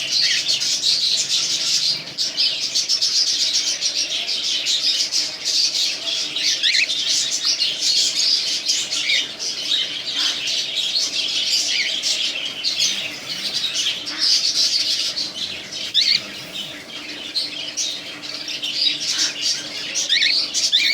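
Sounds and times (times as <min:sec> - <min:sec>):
cockatiels squawking and chattering: 0:00.0 - 0:20.9.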